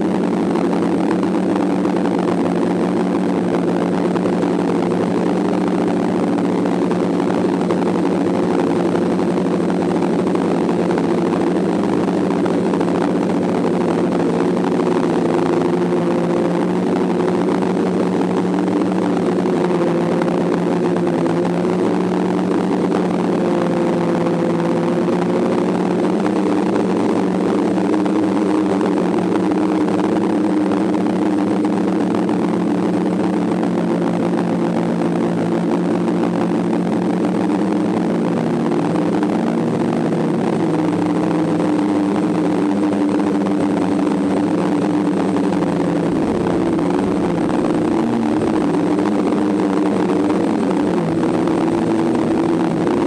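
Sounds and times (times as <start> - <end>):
drone motors and propellers humming: 0.0 - 53.0.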